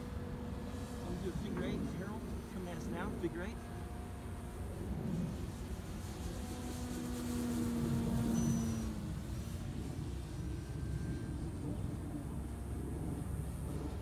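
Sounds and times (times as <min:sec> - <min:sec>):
model plane motor humming: 0:00.0 - 0:14.0.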